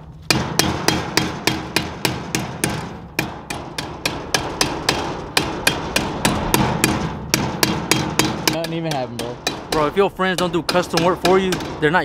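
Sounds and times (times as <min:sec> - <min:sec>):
hammer striking metal pipe: 0:00.0 - 0:12.0.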